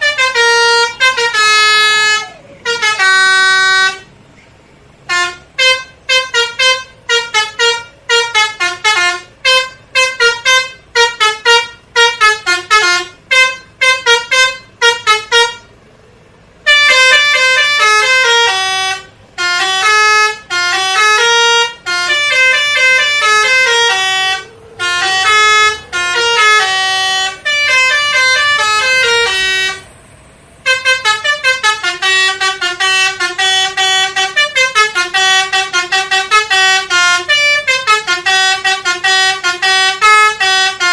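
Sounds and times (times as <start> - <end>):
musical bus horn playing tunes: 0.0 - 4.2, 4.9 - 40.9.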